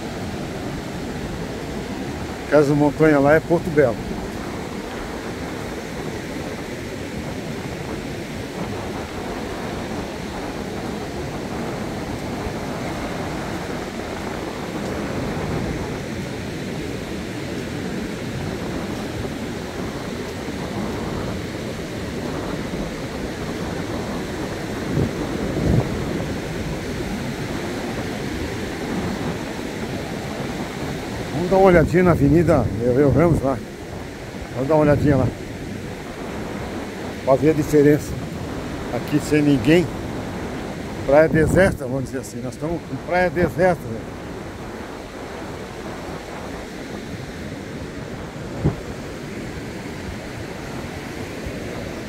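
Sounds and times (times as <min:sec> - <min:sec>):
rough surf breaking: 0:00.0 - 0:52.0
wind on microphone: 0:00.0 - 0:52.0.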